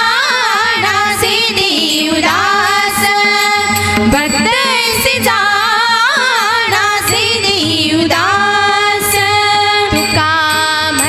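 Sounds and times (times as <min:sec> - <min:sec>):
drum and cymbal strokes: 0:00.0 - 0:11.0
women singing devotional song: 0:00.0 - 0:11.0.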